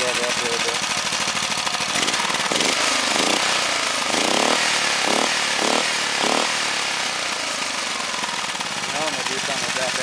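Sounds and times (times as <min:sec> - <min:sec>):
small engine running loudly: 0:00.0 - 0:10.0.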